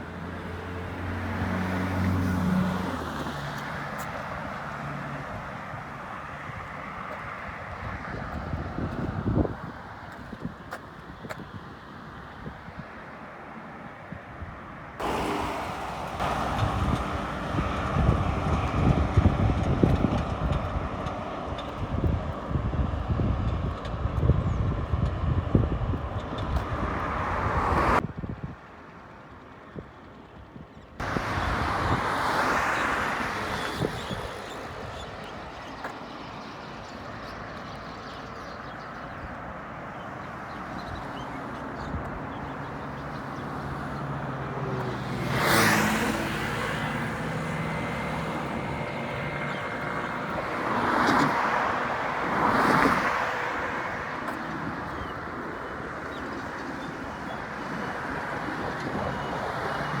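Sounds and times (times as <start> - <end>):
steady roadway hum: 0.0 - 60.0
vehicles passing close by: 0.0 - 60.0.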